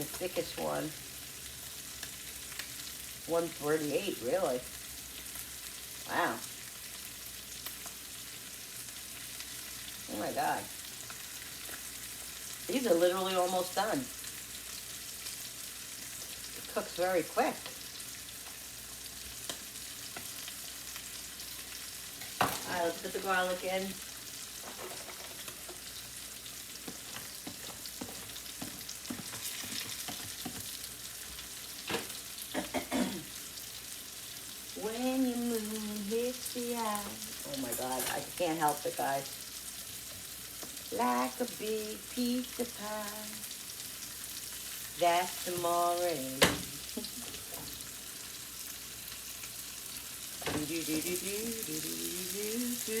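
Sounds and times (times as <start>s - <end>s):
fish sizzling in a pan: 0.0s - 53.0s.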